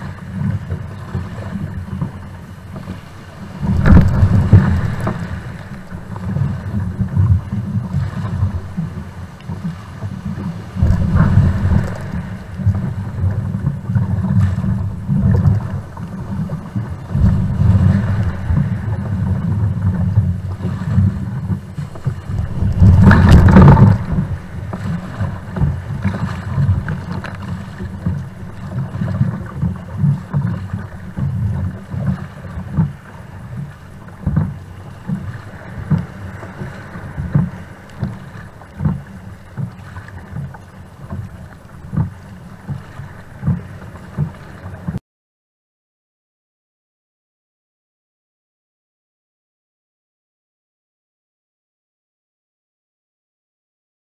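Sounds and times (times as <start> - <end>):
water splashing against kayak hull: 0.0 - 45.0
wave hitting: 0.0 - 45.0
wind rumble on microphone: 0.0 - 45.0.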